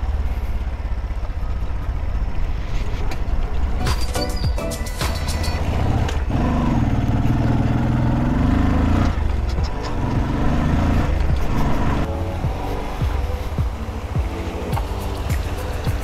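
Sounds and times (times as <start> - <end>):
motorcycle engine under load: 0.0 - 16.0
wind and road noise: 0.0 - 16.0.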